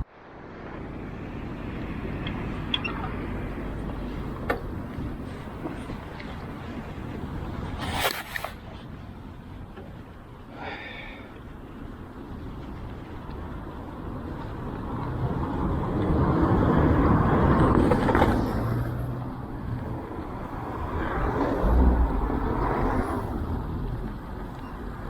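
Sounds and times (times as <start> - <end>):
cars passing by: 0.0 - 25.0.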